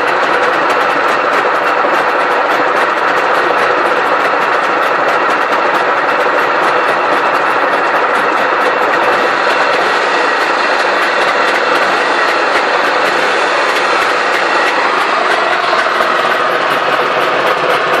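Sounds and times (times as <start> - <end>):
two-stroke engine running rattly: 0.0 - 18.0.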